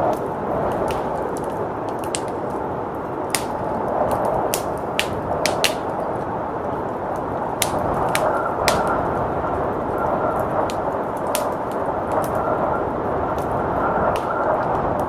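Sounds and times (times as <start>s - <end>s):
blizzard wind rushing: 0.0s - 15.0s
wood fire crackling: 0.0s - 15.0s.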